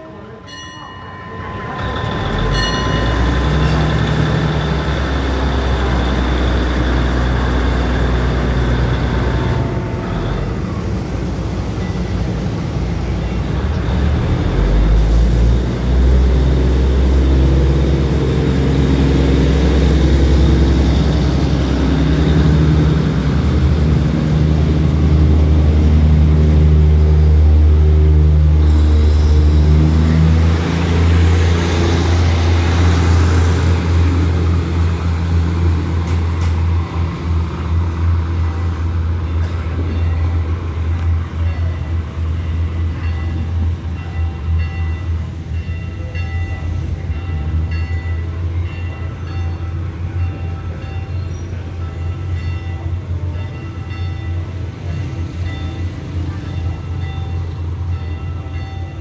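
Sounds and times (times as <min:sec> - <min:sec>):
diesel train engine drone: 0:00.0 - 0:59.0
wheel and rail noise: 0:00.0 - 0:59.0.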